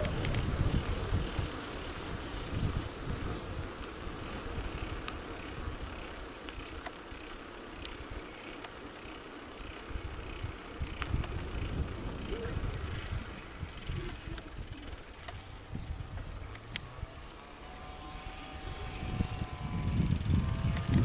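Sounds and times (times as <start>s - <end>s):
small clicks and rattles: 0.0s - 1.4s, 3.8s - 16.9s, 18.2s - 21.0s
wind buffeting microphone: 0.0s - 6.8s, 9.8s - 21.0s
steady rustling hiss: 0.0s - 21.0s.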